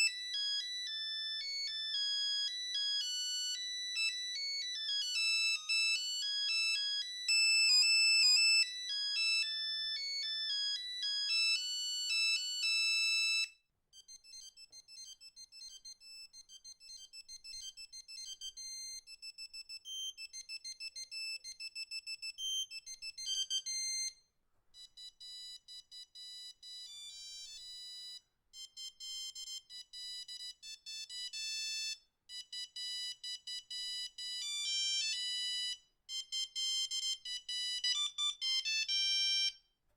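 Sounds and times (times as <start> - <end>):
mobile phone ringtone beeping: 0.0 - 24.1, 24.8 - 39.6.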